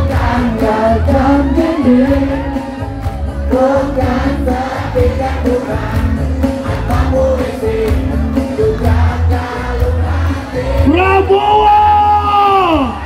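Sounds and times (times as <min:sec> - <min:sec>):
loud music with singing: 0:00.0 - 0:13.0.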